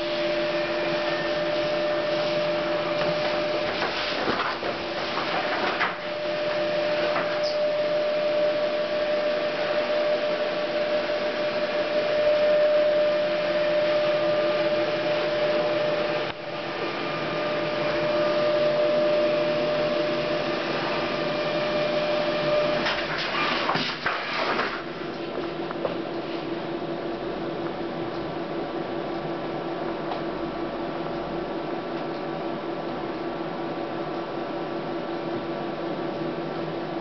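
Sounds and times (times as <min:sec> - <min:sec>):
label printer whirring hiss: 0:00.0 - 0:31.1.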